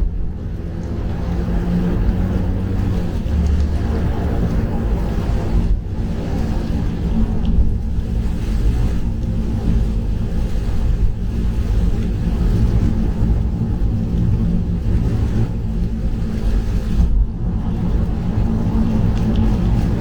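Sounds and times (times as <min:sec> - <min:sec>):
rain and tyre spray hiss: 0:00.0 - 0:20.0
road and engine rumble: 0:00.0 - 0:20.0.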